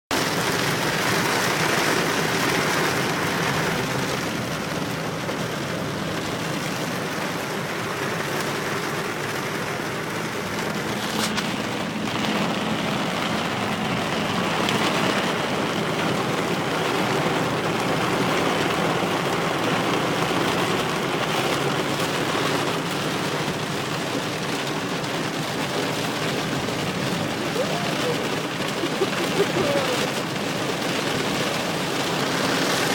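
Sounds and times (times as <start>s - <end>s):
steady rain: 0.1s - 32.9s
car tyres hissing through water: 0.2s - 32.9s.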